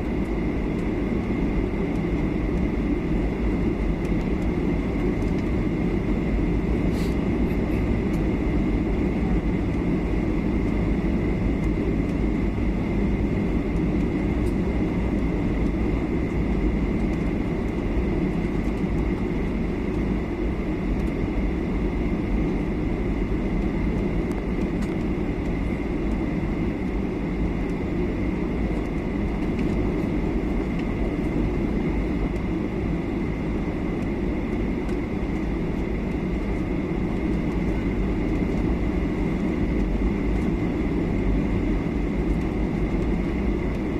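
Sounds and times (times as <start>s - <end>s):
jet engines rumbling: 0.0s - 43.9s
thin steady whine: 0.0s - 43.9s.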